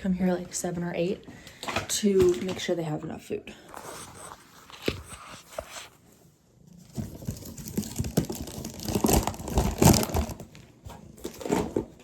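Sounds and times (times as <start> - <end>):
crinkling and rustling with clicks: 0.2 - 12.0.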